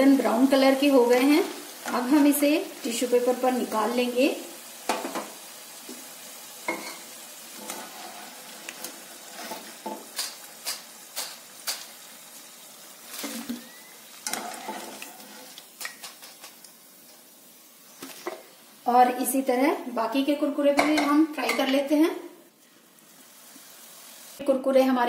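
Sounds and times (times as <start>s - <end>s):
food sizzling in hot oil: 0.0s - 24.8s.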